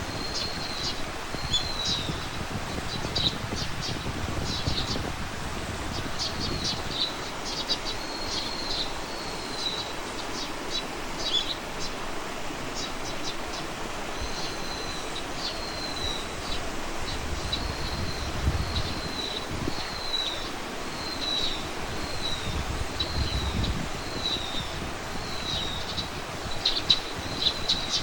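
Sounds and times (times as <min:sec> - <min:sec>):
steady background hiss: 0:00.0 - 0:28.0
small birds chirping: 0:00.1 - 0:28.0.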